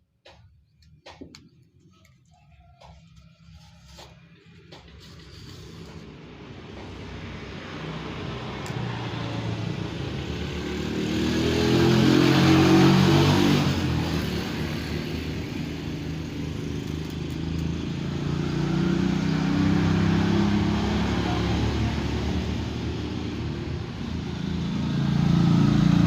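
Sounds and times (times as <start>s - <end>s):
second vehicle approaching: 2.6s - 26.0s
vehicle engine passing by: 3.1s - 26.0s.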